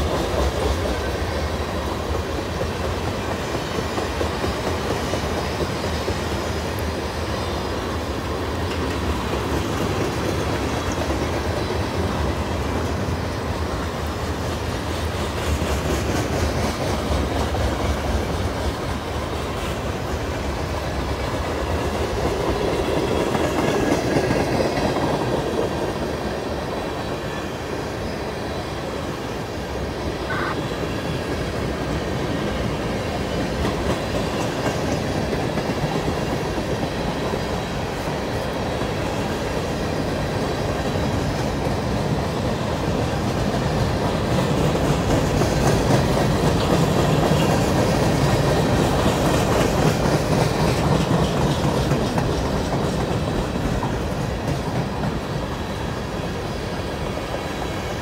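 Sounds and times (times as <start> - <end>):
train wheels on rail: 0.0 - 58.0.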